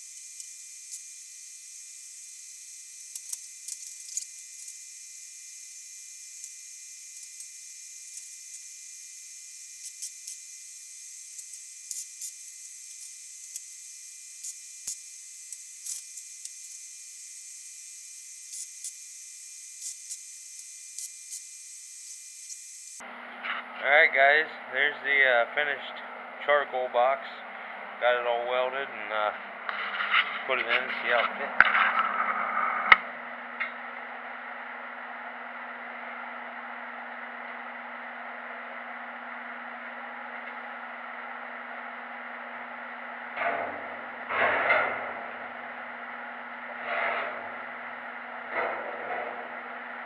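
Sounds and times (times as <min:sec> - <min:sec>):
welder crackling spits: 0:00.0 - 0:34.0, 0:35.9 - 0:50.0.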